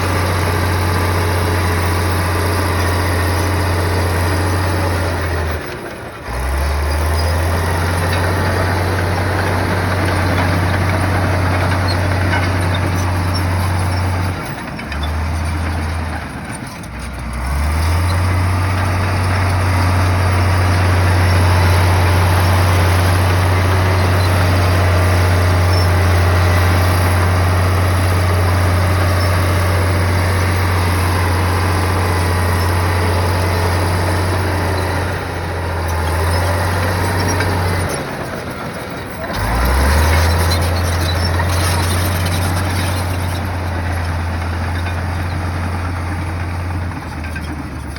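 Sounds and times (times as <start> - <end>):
bulldozer diesel engine droning: 0.0 - 47.9.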